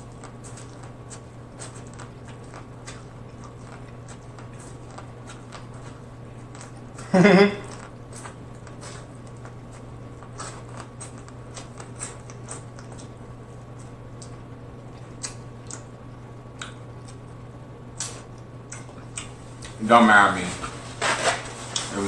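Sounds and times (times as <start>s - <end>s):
chewing corn mouth sounds: 0.0s - 17.4s, 18.0s - 19.8s
steady low hum: 0.0s - 22.0s.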